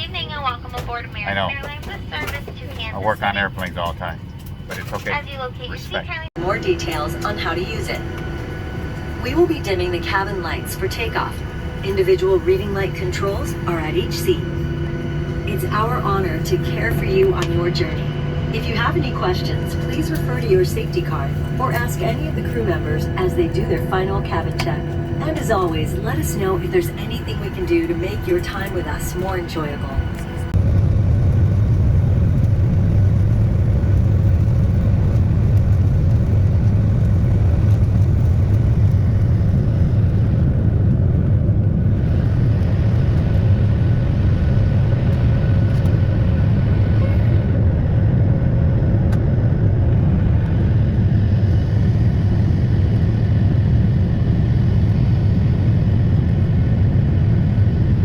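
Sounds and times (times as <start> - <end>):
faint engine tones: 0.0 - 58.0
jet engines and airflow rumble: 0.0 - 58.0.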